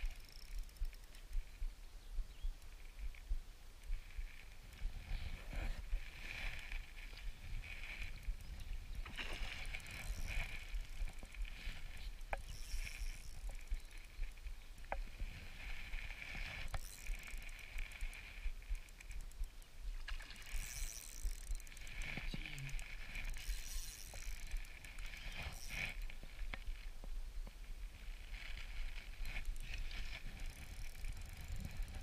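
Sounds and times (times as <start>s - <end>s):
fishing reel being cranked: 0.0s - 1.6s, 3.8s - 26.9s, 28.0s - 32.0s.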